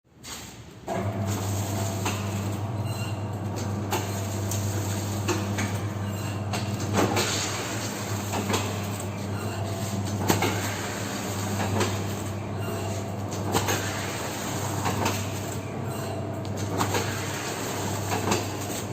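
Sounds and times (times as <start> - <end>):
packing machine electric hum: 0.2 - 18.9.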